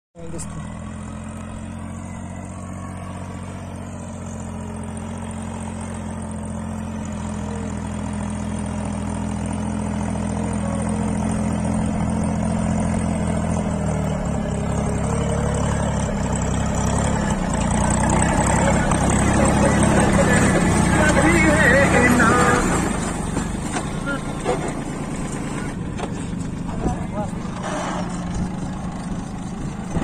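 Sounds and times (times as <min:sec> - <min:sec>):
tractor diesel engine running: 0:00.2 - 0:30.0.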